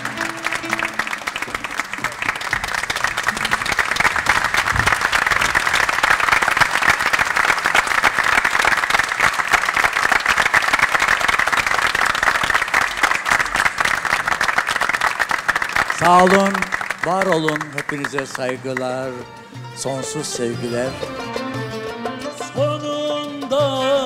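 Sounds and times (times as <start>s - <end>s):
large audience applauding: 0.0s - 19.4s.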